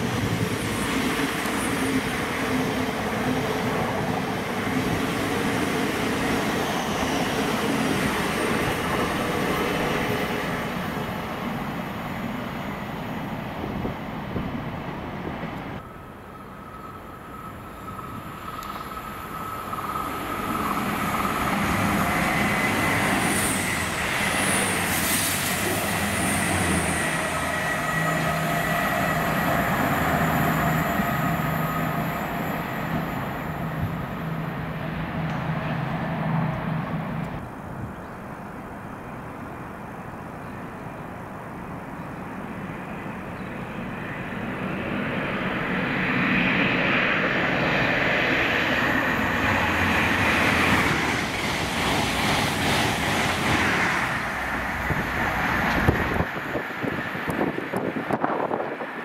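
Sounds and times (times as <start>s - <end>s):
rail noise of approaching train: 0.0s - 59.0s
train running: 0.0s - 59.0s.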